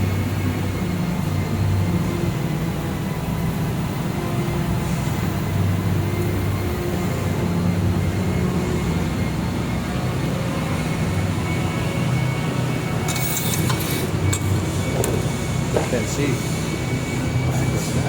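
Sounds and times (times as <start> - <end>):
cooling unit humming: 0.0 - 18.0.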